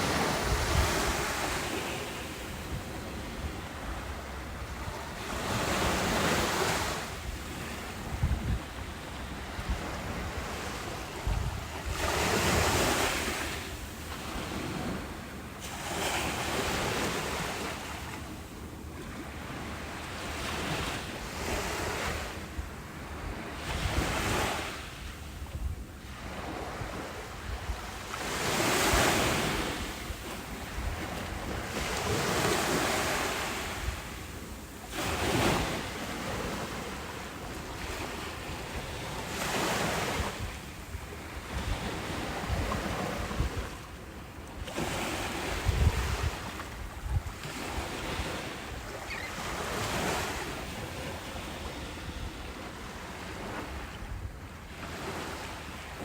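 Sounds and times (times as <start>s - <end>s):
wind rumbling on microphone: 0.0s - 15.2s, 20.6s - 54.6s
ocean waves breaking on beach: 0.0s - 56.0s.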